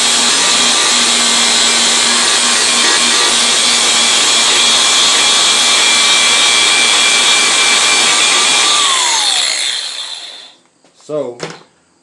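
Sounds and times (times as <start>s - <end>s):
angle grinder grinding metal: 0.0s - 10.6s.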